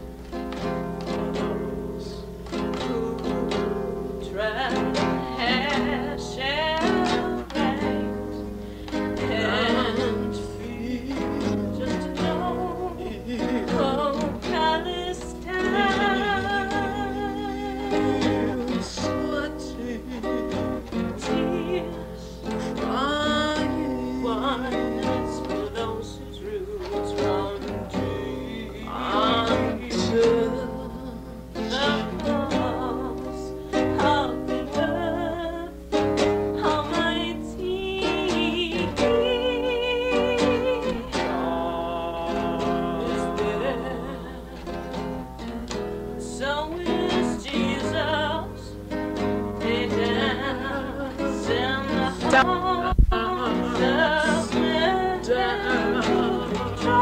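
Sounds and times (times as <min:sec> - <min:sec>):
person singing with vibrato: 0:00.0 - 0:57.0
plucked string instruments: 0:00.0 - 0:57.0.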